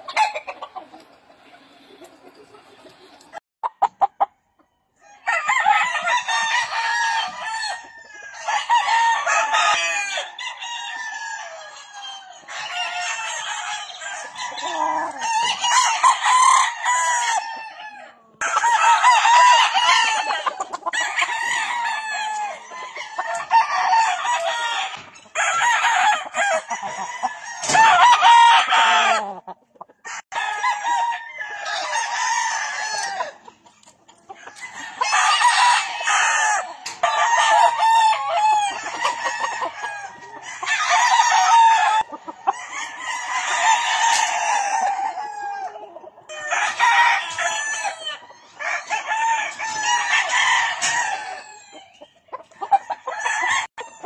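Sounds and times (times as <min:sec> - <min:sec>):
roosters crowing: 0:00.0 - 0:00.9, 0:04.9 - 0:54.0.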